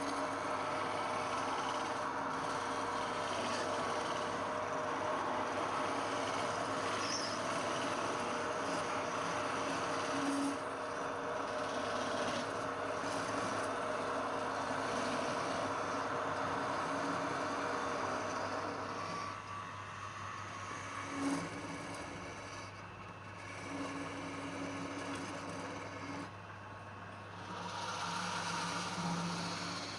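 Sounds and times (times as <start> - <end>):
wood lathe running with hiss: 0.0 - 29.9.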